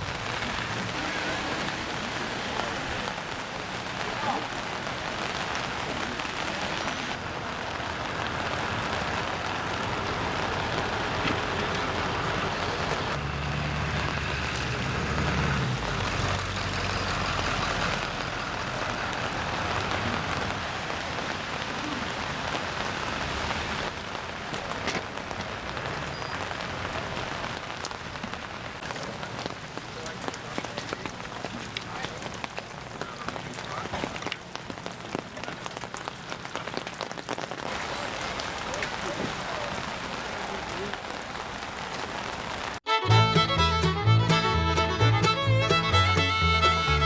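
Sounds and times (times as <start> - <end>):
rain pattering: 0.0 - 47.0.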